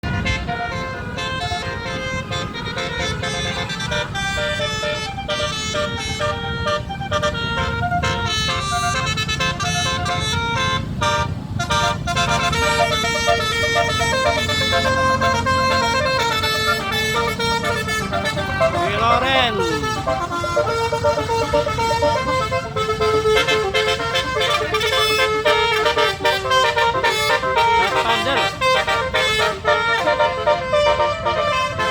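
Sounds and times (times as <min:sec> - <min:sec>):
bus engine rumble: 0:00.0 - 0:31.9
bus horn melody: 0:00.0 - 0:31.9.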